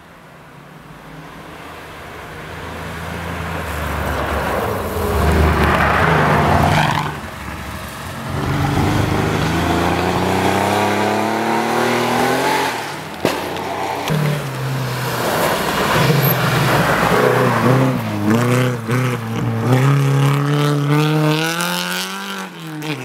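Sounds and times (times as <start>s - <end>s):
rally car engine passing by: 2.4s - 23.0s.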